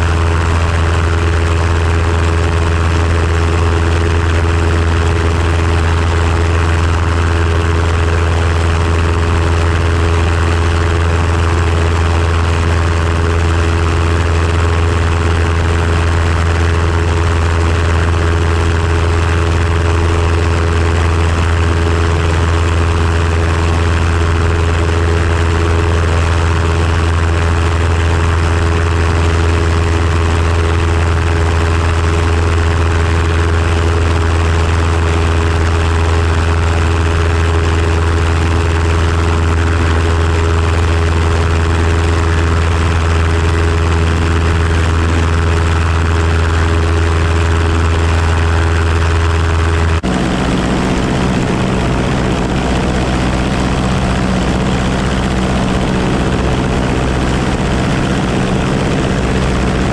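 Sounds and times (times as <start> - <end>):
propeller engine droning: 0.0 - 59.9
wind rush: 0.0 - 59.9.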